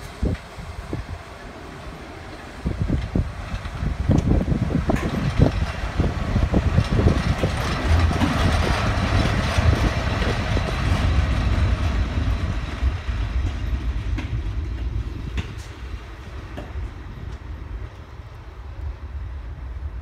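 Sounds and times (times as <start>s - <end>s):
electric locomotive passing: 0.0s - 20.0s.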